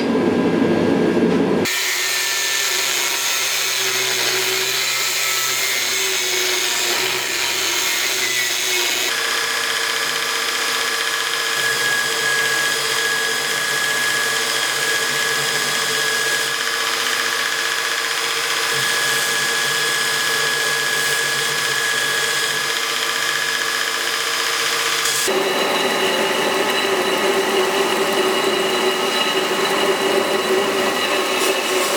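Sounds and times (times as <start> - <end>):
electric power tool whining: 1.6 - 31.9.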